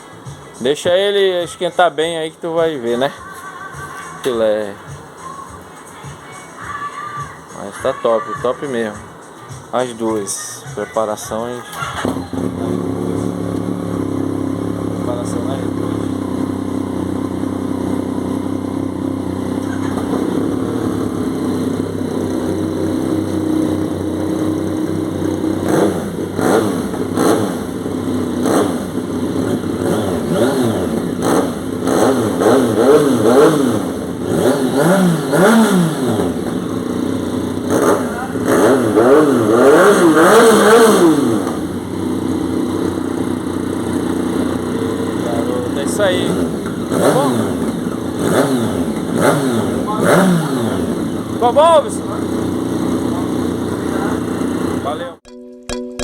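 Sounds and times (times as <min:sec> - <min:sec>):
motorcycle engine idling and revving: 0:00.0 - 0:55.2.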